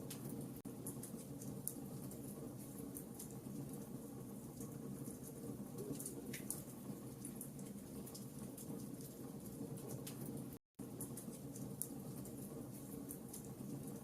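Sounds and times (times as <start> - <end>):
campfire rumble: 0.0 - 14.0
fire crackles and pops: 0.0 - 14.0.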